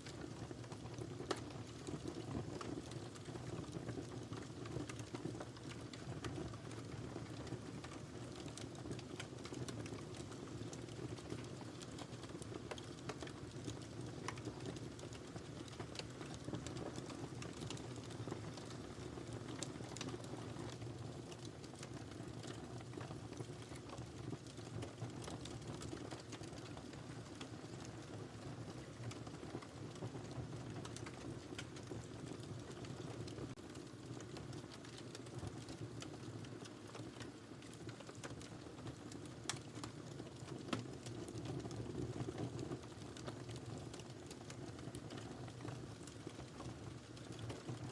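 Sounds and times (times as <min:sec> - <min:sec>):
firewood crackling and popping: 0:00.0 - 0:47.9.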